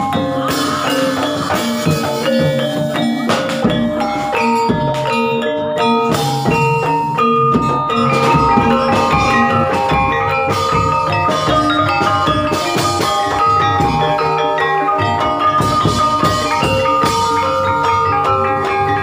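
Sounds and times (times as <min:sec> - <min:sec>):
drums: 0:00.0 - 0:19.0
metallophones ringing a melody: 0:00.0 - 0:19.0.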